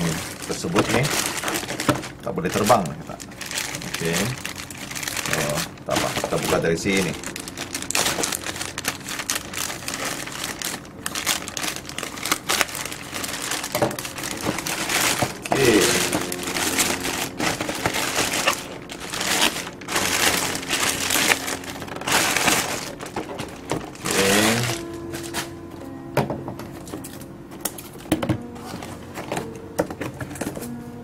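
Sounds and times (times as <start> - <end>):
plastic mailer bag crinkling: 0.0 - 25.8, 27.8 - 30.6.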